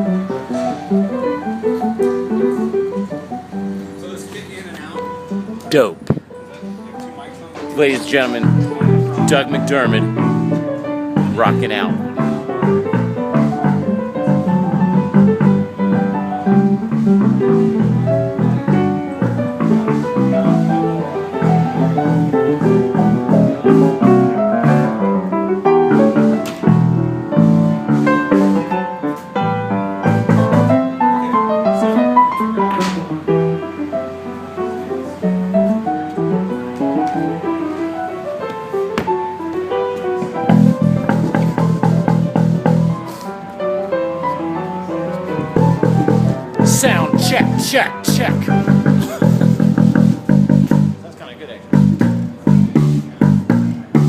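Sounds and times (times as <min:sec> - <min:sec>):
fast piano playing: 0:00.0 - 0:54.0.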